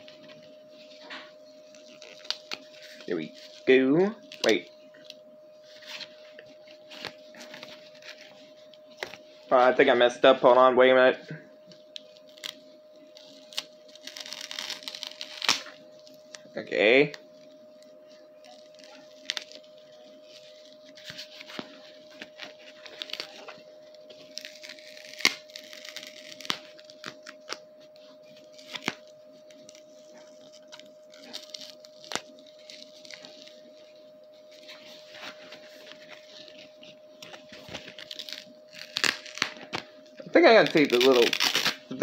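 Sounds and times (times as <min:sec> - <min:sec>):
sticker peeling and crinkling: 0:00.0 - 0:09.4, 0:11.7 - 0:42.0.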